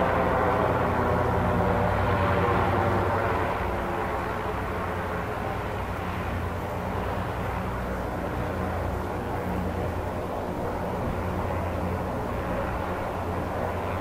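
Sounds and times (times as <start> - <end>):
airship propeller engines droning: 0.0 - 14.0.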